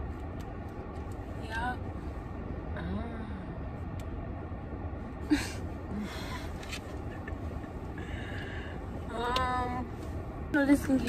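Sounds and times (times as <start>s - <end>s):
low rumble in car cabin: 0.0s - 11.0s.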